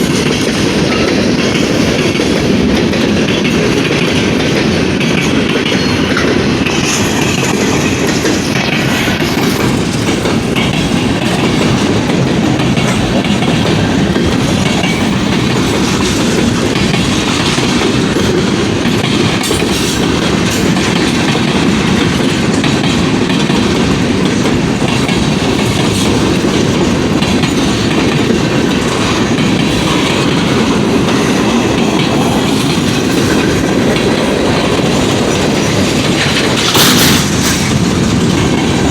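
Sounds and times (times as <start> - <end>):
freight train rumbling past: 0.0 - 38.9
wheel clatter over rail joints: 0.0 - 38.9.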